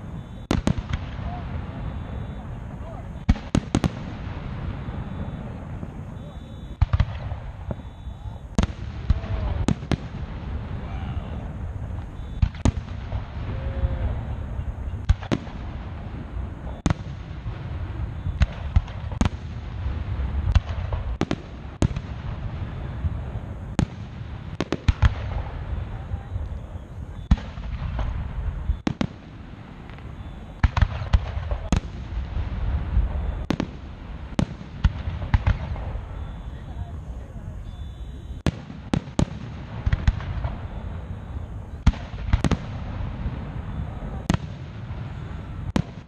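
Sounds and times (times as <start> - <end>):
continuous low rumble: 0.0 - 46.0
fireworks booming: 0.0 - 46.0.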